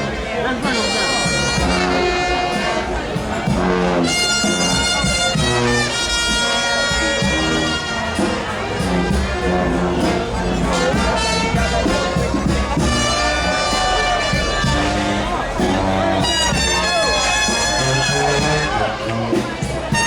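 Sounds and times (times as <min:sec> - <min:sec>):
brass band playing: 0:00.0 - 0:20.0
crowd noise: 0:00.0 - 0:20.0
steady drum beat: 0:00.0 - 0:20.0
trumpets and trombones: 0:00.0 - 0:20.0.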